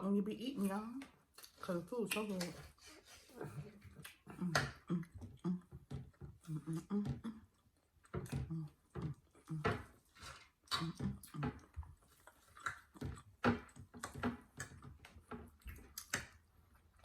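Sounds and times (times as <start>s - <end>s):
person chewing: 1.3s - 17.0s.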